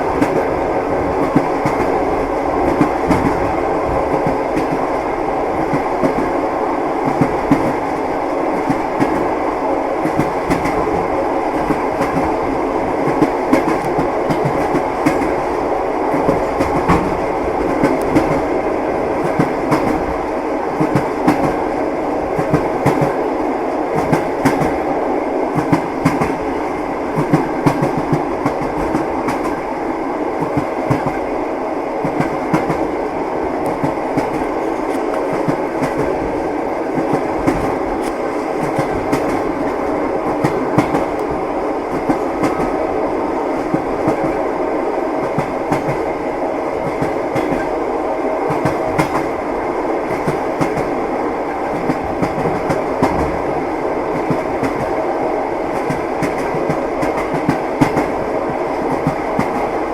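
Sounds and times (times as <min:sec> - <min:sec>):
train wheels clattering on rails: 0:00.0 - 0:06.4, 0:07.0 - 0:09.4, 0:10.0 - 0:24.9, 0:25.5 - 0:29.8, 0:30.4 - 0:31.4, 0:32.0 - 0:42.8, 0:43.5 - 0:44.6, 0:45.2 - 0:46.2, 0:46.8 - 0:47.8, 0:48.4 - 0:59.9.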